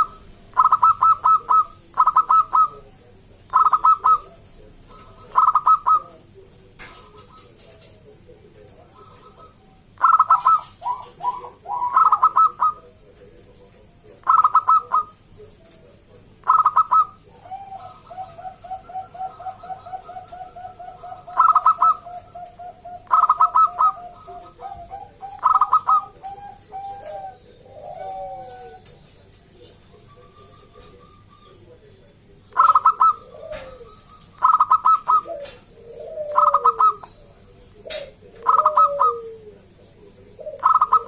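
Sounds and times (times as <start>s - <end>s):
doves cooing: 0.0s - 41.0s.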